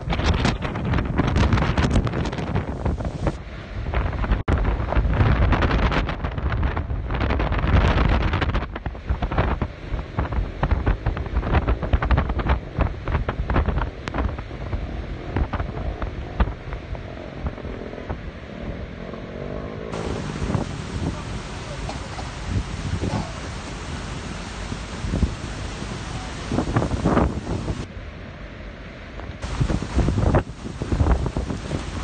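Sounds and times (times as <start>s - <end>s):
wind buffeting microphone: 0.0s - 28.2s, 29.1s - 32.0s.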